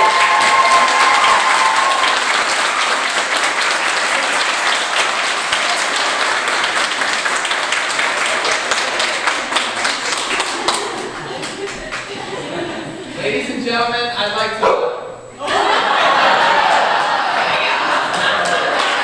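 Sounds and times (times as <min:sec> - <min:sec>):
crowd applauding: 0:00.0 - 0:13.1, 0:15.4 - 0:19.0.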